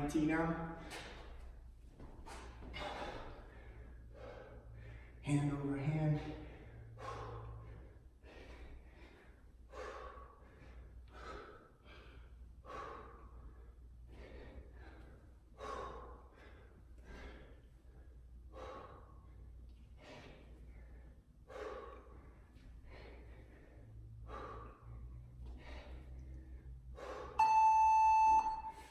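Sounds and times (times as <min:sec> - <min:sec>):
man breathing hard: 0:00.7 - 0:27.4.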